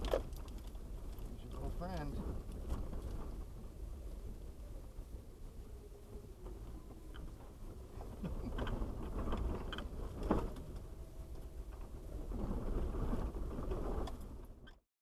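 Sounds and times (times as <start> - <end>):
knocks and rattles over bumps: 0.0 - 5.1, 6.4 - 14.8
vehicle cabin rumble: 0.0 - 14.8.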